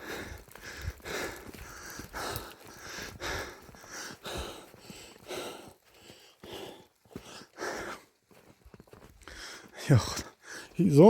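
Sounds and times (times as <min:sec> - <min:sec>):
person breathing hard: 0:00.0 - 0:08.5, 0:09.1 - 0:10.8.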